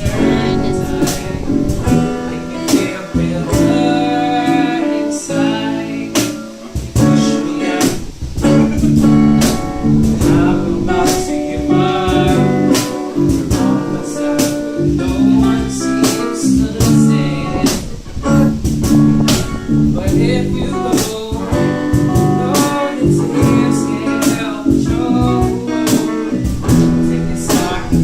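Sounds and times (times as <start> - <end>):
guitar: 0.0 - 28.0
person singing: 0.0 - 28.0.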